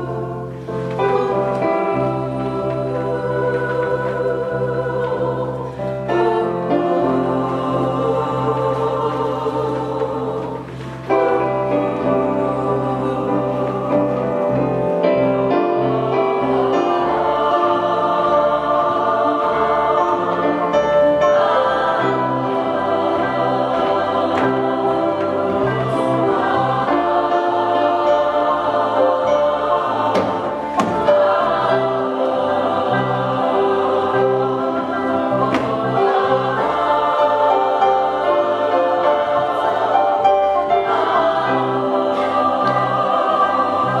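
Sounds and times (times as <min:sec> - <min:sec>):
women's choir singing: 0:00.0 - 0:44.0.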